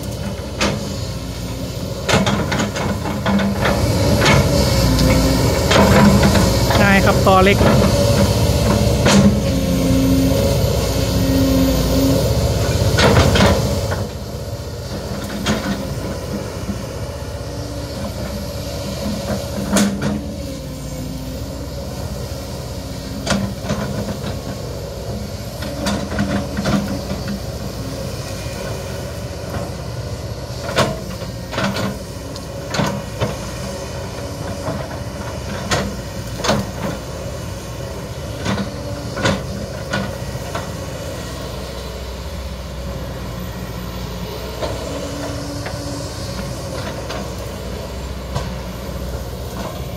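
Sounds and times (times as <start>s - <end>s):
diesel engine running: 0.0s - 49.9s
hydraulic whine: 0.0s - 49.9s.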